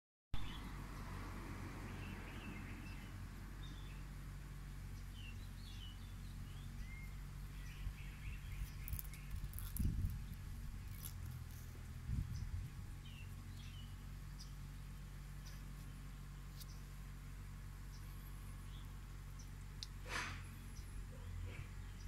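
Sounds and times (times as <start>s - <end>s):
small birds chirping: 0.4s - 22.0s
steady low rumble: 0.4s - 22.0s.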